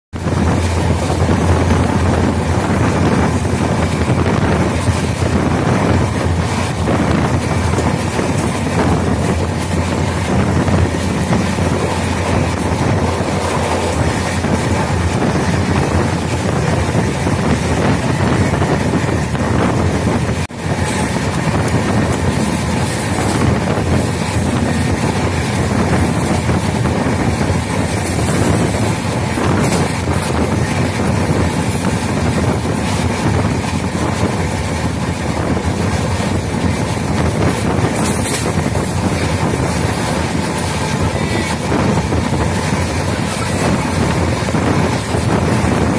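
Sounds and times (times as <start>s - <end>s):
train wheels rumbling on rail: 0.1s - 45.9s
wind buffeting microphone: 0.1s - 45.9s.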